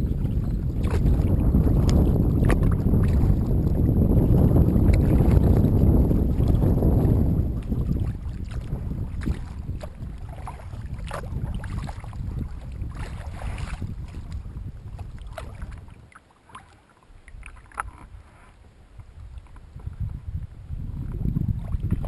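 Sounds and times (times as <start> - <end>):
water splashing against kayak: 0.0 - 22.0
wind rumble on microphone: 0.0 - 22.0.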